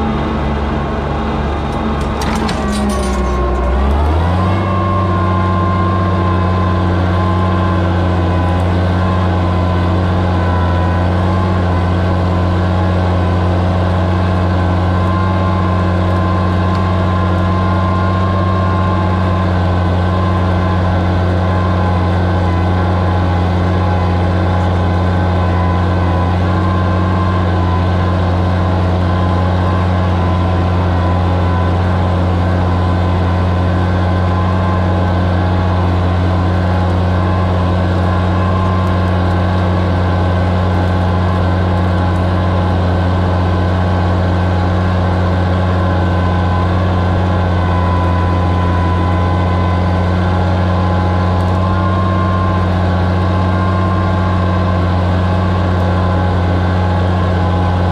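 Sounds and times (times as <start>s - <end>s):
tractor engine under load: 0.0s - 57.9s.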